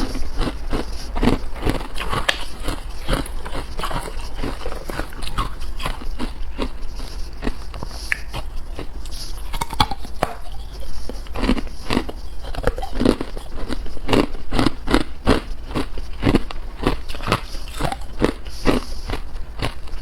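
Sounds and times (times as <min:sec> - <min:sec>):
ice crunching while chewing: 0:00.0 - 0:20.0.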